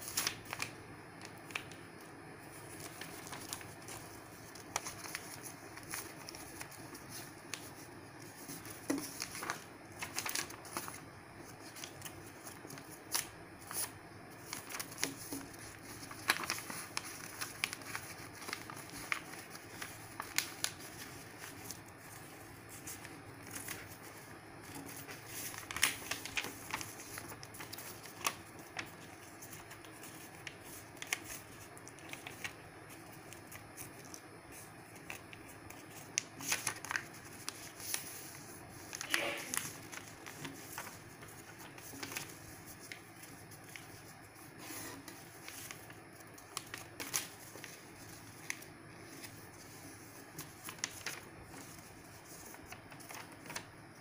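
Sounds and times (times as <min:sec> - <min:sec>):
paper being folded and creased: 0:00.0 - 0:54.0.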